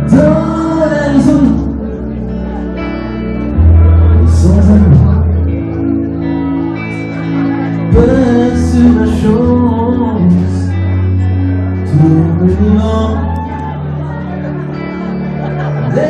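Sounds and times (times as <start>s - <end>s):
man singing lead: 0.0s - 2.8s, 3.5s - 6.8s, 7.4s - 14.4s, 15.8s - 16.0s
electric bass: 0.0s - 16.0s
keyboard chords: 0.0s - 16.0s.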